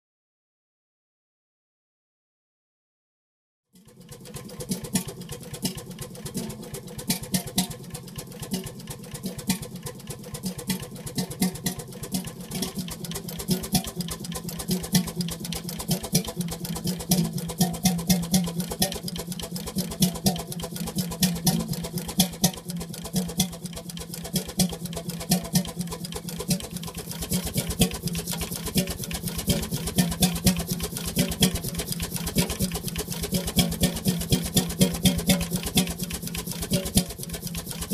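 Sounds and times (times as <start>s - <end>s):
old engine clattering: 3.8s - 37.9s.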